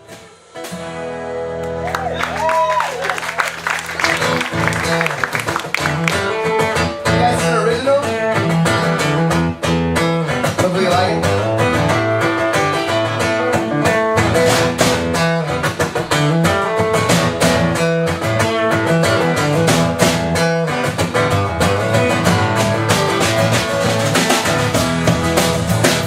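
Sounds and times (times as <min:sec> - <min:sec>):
bass line: 0:00.0 - 0:26.0
strummed guitar: 0:00.0 - 0:26.0.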